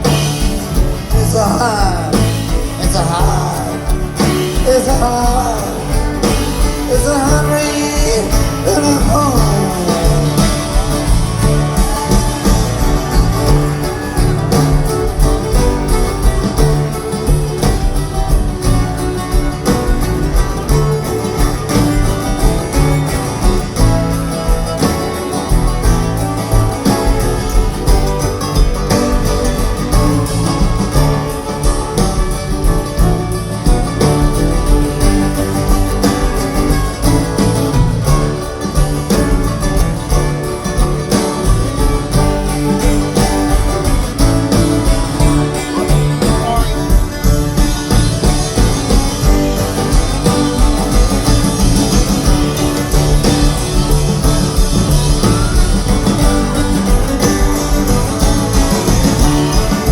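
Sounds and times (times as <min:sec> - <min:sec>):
live rock band playing: 0:00.0 - 0:59.9
pitch-bending lead melody: 0:00.0 - 0:59.9.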